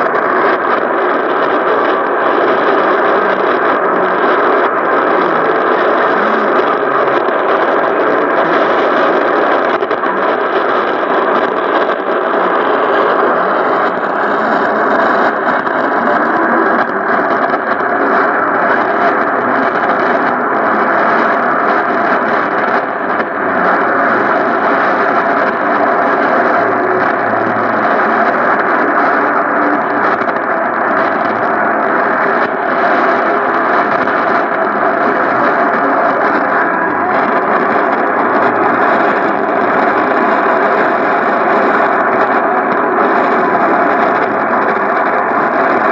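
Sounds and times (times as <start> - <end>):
radio static rush: 0.0 - 45.9.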